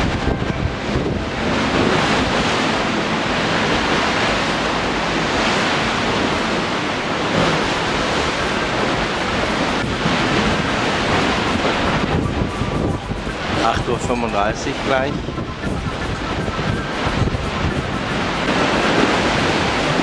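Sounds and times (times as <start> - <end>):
rough sea churning: 0.0 - 20.0
strong wind buffeting microphone: 0.0 - 20.0.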